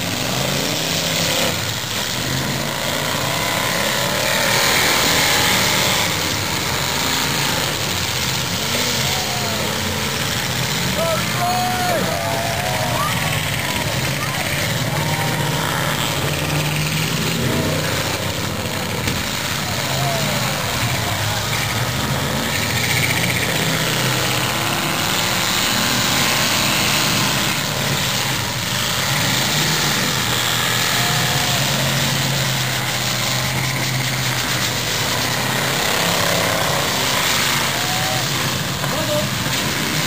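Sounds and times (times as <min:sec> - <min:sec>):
many car engines revving: 0:00.0 - 0:40.0.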